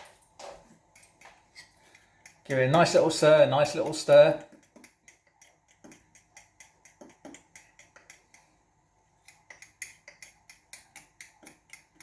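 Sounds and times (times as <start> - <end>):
batter stirred in mixing bowl: 0.8 - 12.0
utensil clicking against bowl: 0.9 - 8.5, 9.2 - 12.0.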